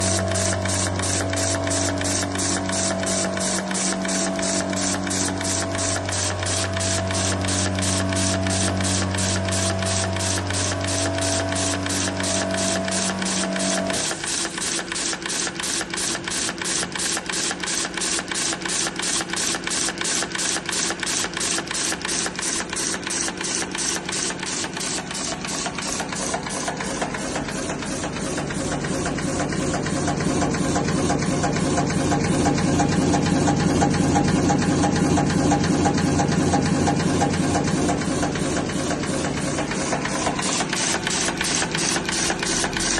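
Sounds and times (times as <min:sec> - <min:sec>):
chain making machine clacking: 0:00.0 - 0:42.9
steady motor hum: 0:00.0 - 0:42.9.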